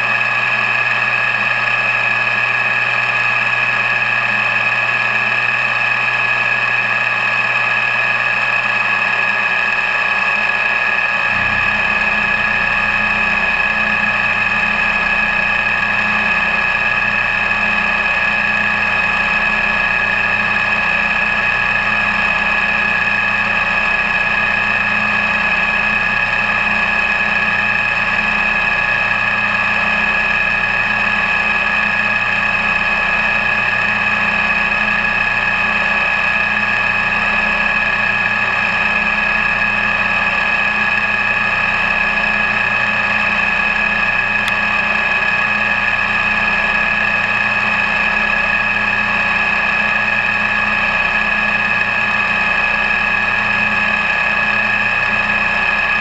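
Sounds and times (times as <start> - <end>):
high-pitched machine whine: 0.0 - 56.0.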